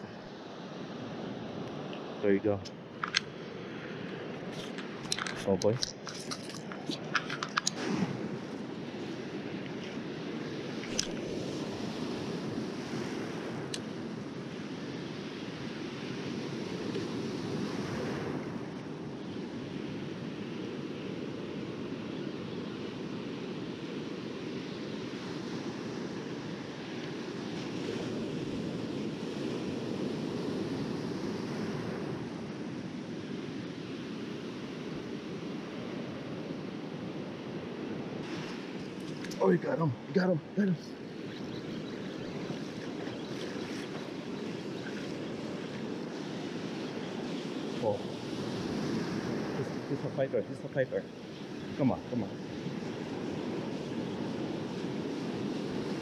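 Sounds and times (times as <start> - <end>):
ocean surf washing: 0.0 - 56.0.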